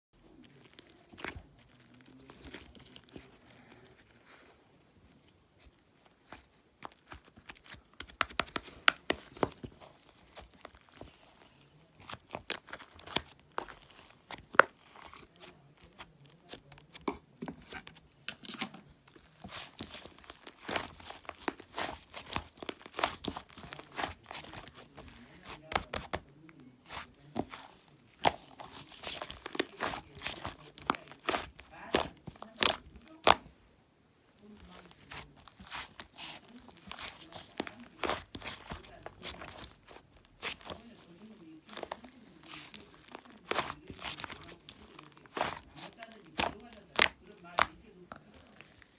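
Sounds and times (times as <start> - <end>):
slime crackling and popping: 0.3 - 3.8, 6.8 - 17.2, 19.2 - 26.2, 26.8 - 33.5, 34.6 - 47.8.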